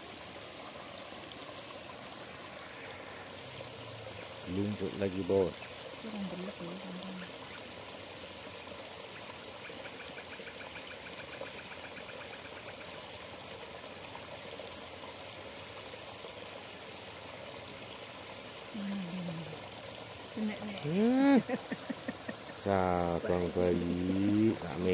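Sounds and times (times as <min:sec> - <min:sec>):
stream trickling into pool: 0:00.0 - 0:24.9.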